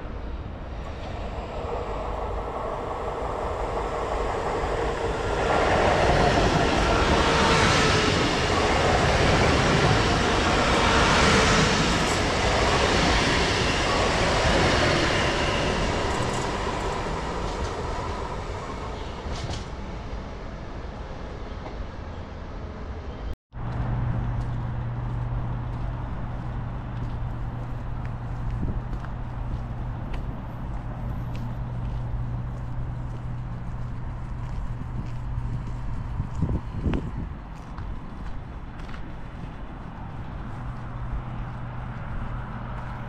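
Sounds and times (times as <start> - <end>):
passenger train passing: 0.0 - 43.0.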